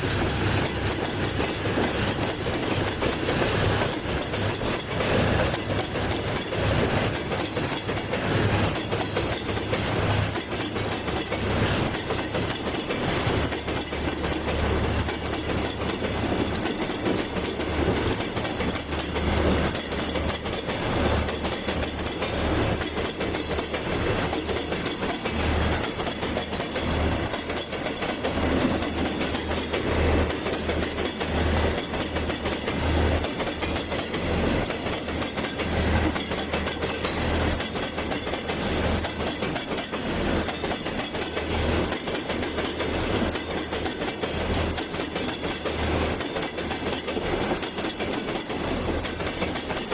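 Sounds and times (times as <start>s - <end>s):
train rumble: 0.0s - 49.9s
train wheels clicking on rails: 0.0s - 49.9s.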